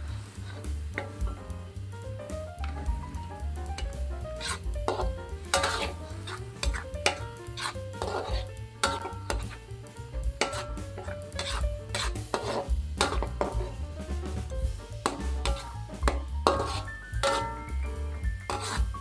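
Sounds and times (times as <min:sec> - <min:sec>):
spatula scraping metal wok: 0:00.0 - 0:01.3, 0:02.8 - 0:19.0
background music with bass: 0:00.0 - 0:19.0
frying in oil: 0:00.0 - 0:19.0.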